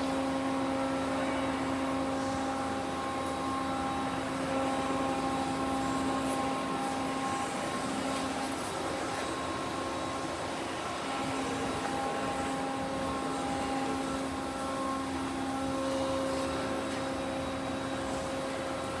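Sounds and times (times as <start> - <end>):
lathe machine hum and whine: 0.0 - 19.0.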